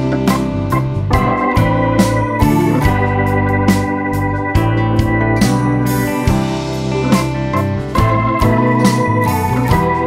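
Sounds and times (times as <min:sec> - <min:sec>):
keyboard backing track with beat: 0:00.0 - 0:10.0.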